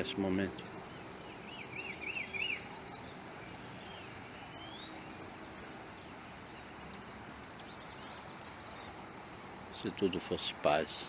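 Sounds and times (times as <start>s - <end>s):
small songbirds chirping: 0.0s - 11.0s
steady outdoor hiss: 0.0s - 11.0s.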